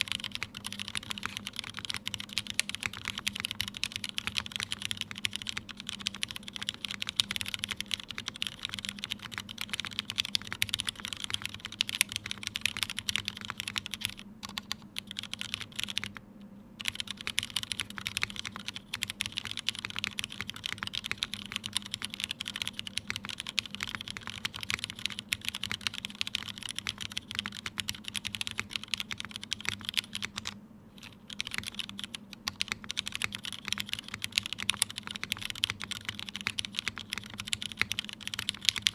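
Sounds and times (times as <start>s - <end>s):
mechanical keyboard typing: 0.0s - 16.2s, 16.8s - 38.9s.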